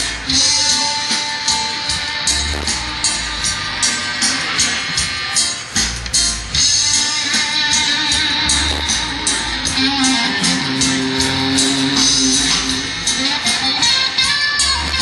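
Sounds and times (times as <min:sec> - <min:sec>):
reggae band playing: 0:00.0 - 0:15.0
strummed electric guitar: 0:00.0 - 0:15.0.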